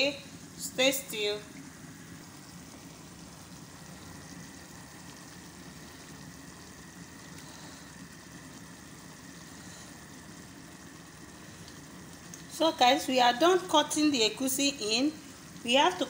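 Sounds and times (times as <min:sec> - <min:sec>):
faint high whine: 0:00.0 - 0:16.0
stew simmering: 0:00.0 - 0:16.0.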